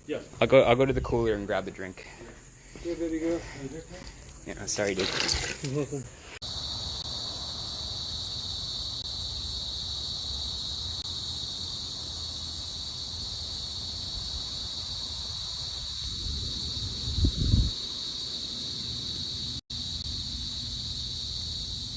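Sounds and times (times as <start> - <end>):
high-pitched insect chorus: 0.0 - 21.9.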